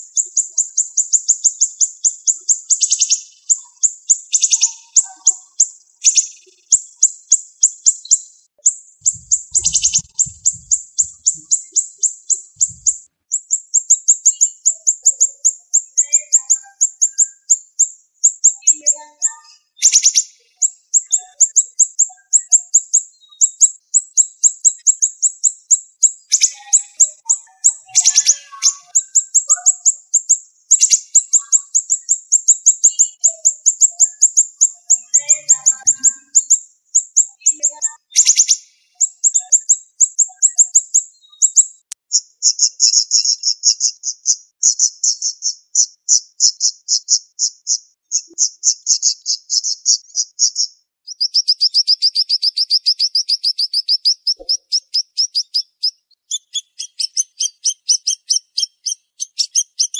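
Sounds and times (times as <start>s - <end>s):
songbird ticking trills: 0.0s - 59.9s.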